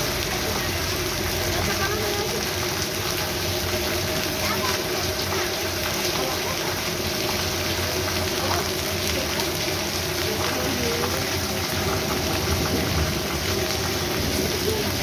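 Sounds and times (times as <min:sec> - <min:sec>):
heavy rain on flooded street: 0:00.0 - 0:15.0.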